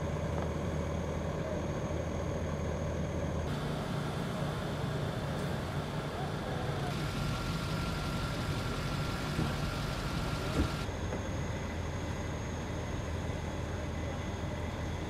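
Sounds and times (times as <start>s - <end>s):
engines idling: 0.0s - 15.0s.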